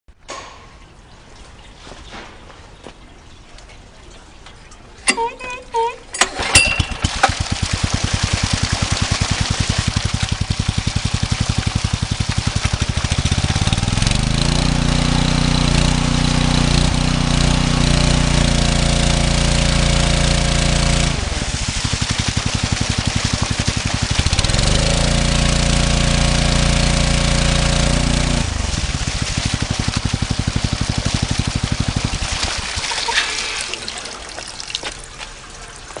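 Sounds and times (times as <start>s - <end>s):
water gushing: 2.6s - 36.0s
water pump petrol engine revving: 5.0s - 36.0s.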